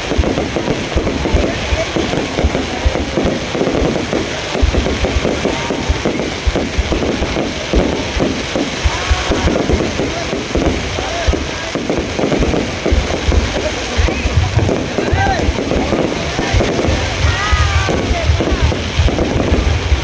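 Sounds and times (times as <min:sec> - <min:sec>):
fireworks booming: 0:00.0 - 0:20.0
fireworks crackling: 0:00.0 - 0:20.0.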